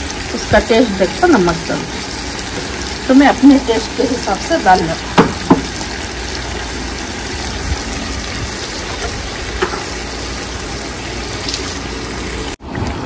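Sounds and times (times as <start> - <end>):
meat sizzling in a pot: 0.0 - 12.6.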